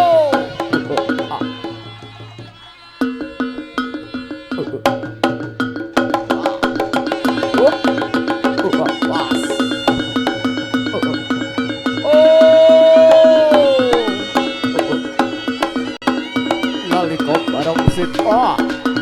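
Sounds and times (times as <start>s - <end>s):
hand drum strikes: 0.0s - 19.0s
struck metal keyed instruments: 0.0s - 19.0s
woodblock strikes: 0.0s - 19.0s.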